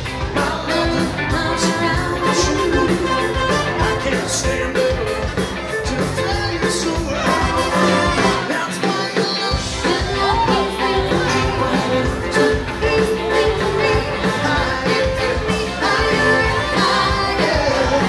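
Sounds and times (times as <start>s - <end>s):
band playing upbeat dance music: 0.0s - 18.0s.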